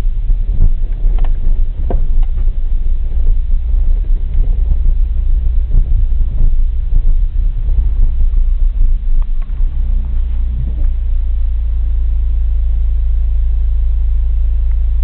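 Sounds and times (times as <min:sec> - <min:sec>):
car cabin road rumble: 0:00.0 - 0:15.0
faint engine hum: 0:00.0 - 0:15.0.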